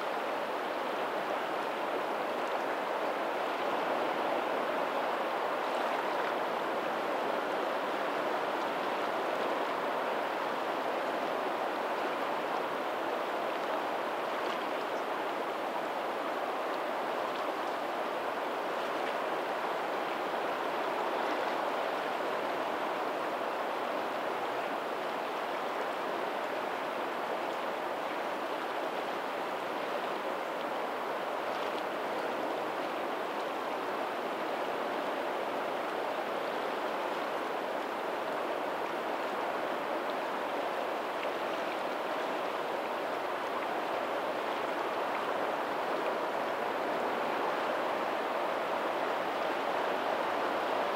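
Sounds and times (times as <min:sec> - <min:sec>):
water rushing: 0:00.0 - 0:50.9.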